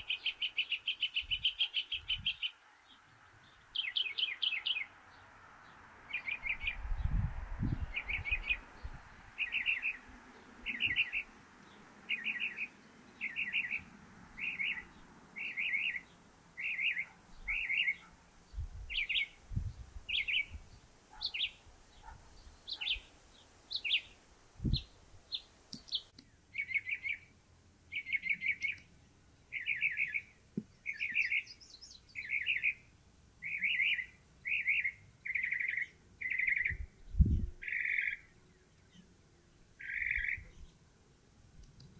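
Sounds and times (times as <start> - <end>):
mockingbird singing: 0.0 - 3.0, 3.7 - 4.9, 6.1 - 18.1, 18.9 - 19.4, 20.1 - 23.1, 23.7 - 24.1, 24.7 - 27.3, 27.9 - 28.9, 29.5 - 39.1, 39.7 - 40.8.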